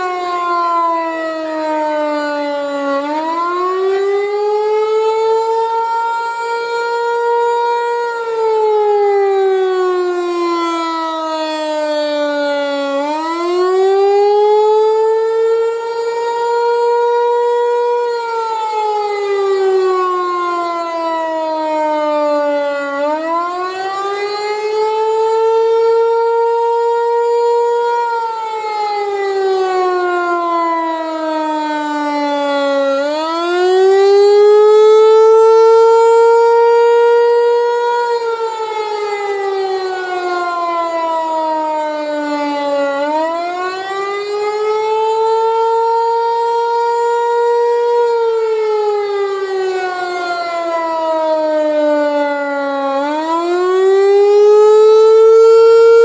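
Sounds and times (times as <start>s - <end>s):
rotating warning siren: 0.0s - 56.0s.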